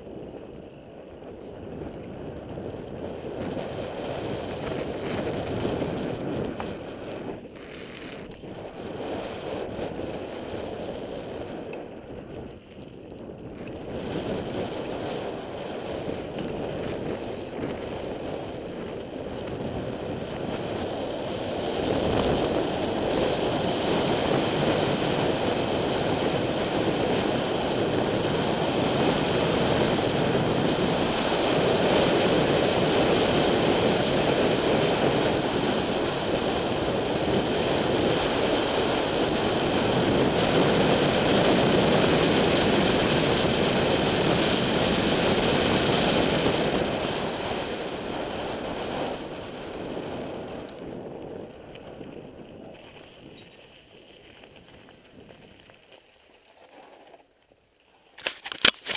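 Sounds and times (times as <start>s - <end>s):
wind rushing over microphone: 0.0s - 55.8s
bike tyres rolling on dirt: 0.0s - 58.9s.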